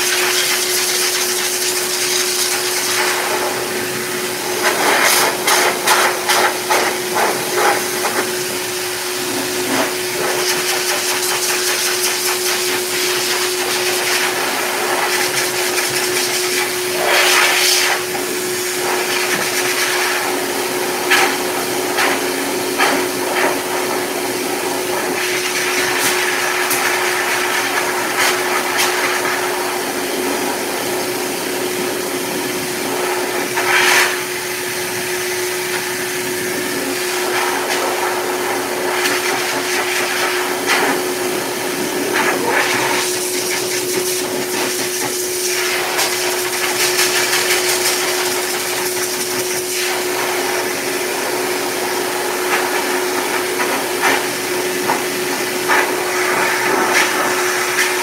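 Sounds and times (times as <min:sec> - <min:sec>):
dog dryer blowing air: 0:00.0 - 0:58.0.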